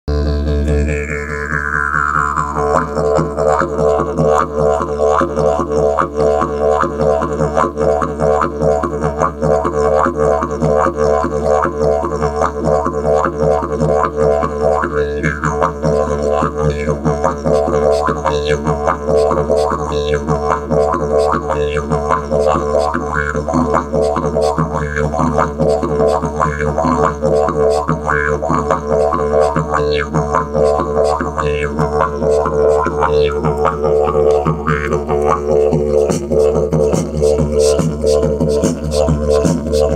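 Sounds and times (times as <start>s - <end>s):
didgeridoo drone: 0.1s - 39.9s.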